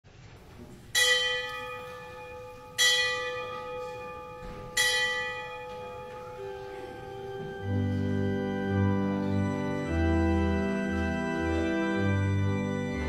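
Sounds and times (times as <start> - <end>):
church bell ringing: 0.9 - 13.0.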